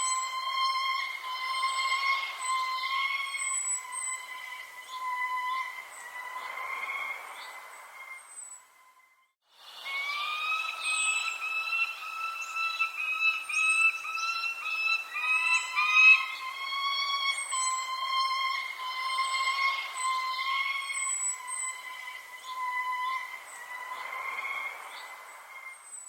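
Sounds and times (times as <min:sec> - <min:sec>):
bird whistling notes: 0:00.0 - 0:08.9, 0:09.7 - 0:26.0
thin high bird chirps: 0:00.0 - 0:26.0.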